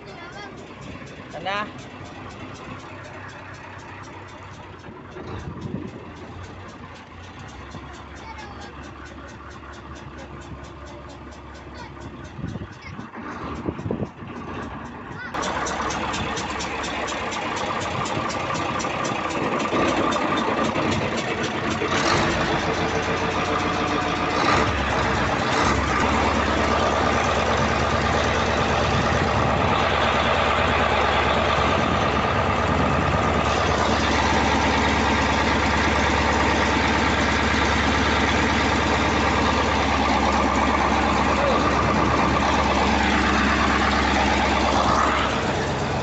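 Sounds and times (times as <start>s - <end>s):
boat diesel engine running: 0.0s - 46.0s.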